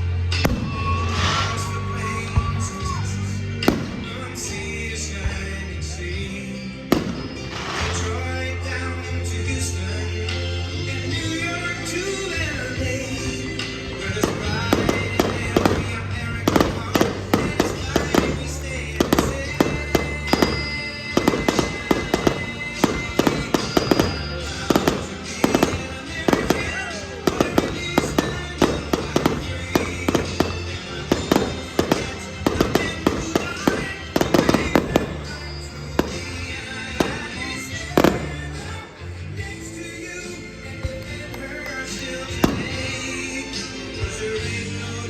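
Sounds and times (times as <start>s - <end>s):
fireworks bangs and crackles: 0.0s - 10.4s, 11.0s - 45.0s.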